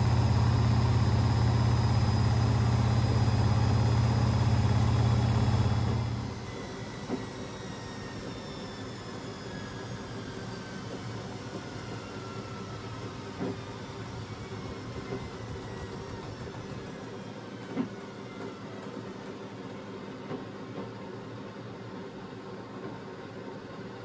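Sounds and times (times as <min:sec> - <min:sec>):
steady mechanical hum: 0:00.0 - 0:24.0
washing machine whine lowering: 0:00.0 - 0:24.0.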